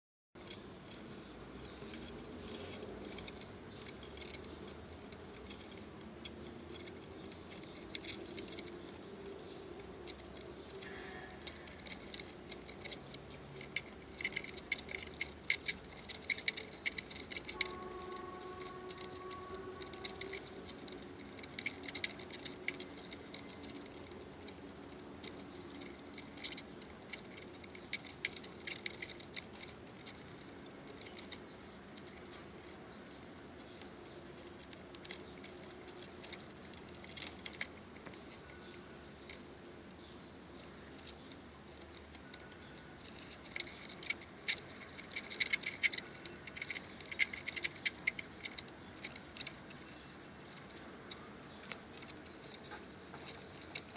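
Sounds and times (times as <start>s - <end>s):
cockroach clicking: 0.4s - 32.9s, 33.8s - 39.8s, 40.5s - 53.9s
low steady hum: 0.4s - 53.9s.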